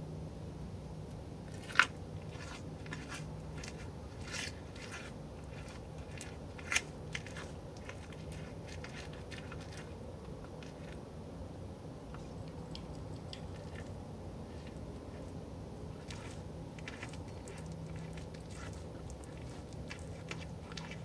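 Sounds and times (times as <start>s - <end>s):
deer chewing: 1.5s - 11.0s, 12.1s - 21.0s.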